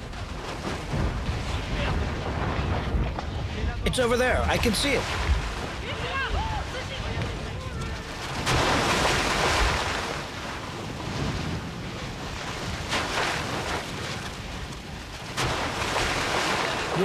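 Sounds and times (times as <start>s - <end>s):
lava churning and spattering: 0.0s - 17.0s.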